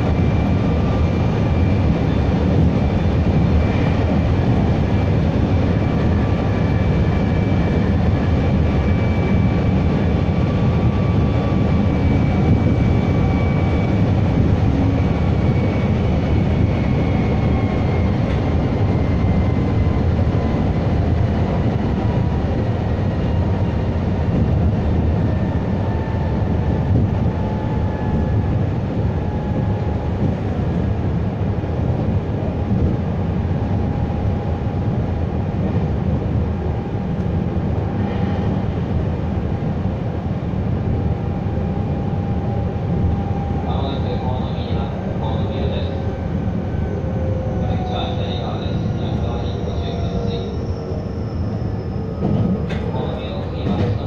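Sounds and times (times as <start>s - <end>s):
wheel and rail rumble: 0.0s - 54.0s.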